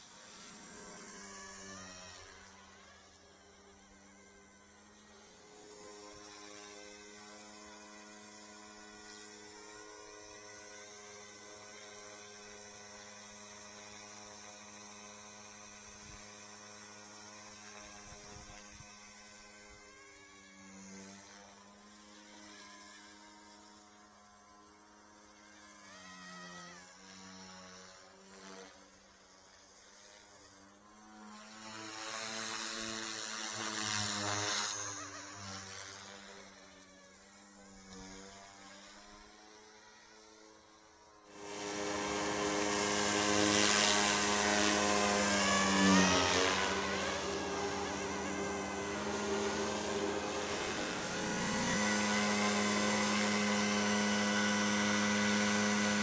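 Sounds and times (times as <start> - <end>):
rc helicopter rotor buzzing: 0.0 - 56.0.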